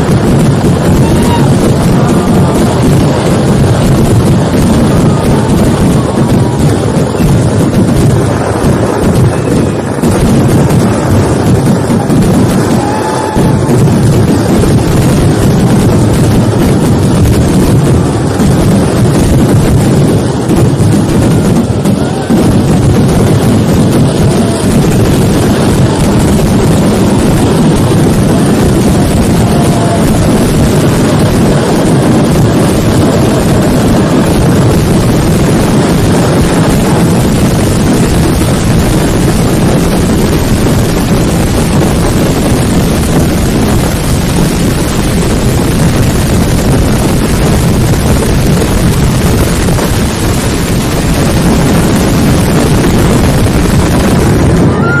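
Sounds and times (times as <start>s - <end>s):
fireworks barrage rumble: 0.0s - 55.0s.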